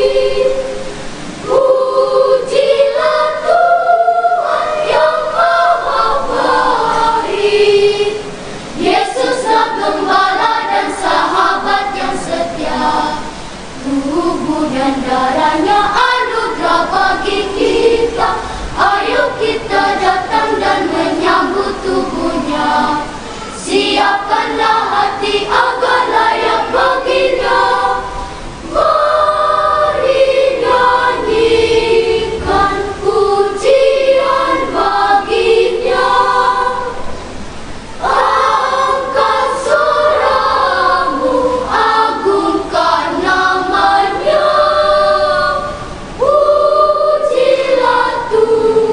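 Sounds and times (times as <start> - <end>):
children's choir singing: 0.0 - 48.9.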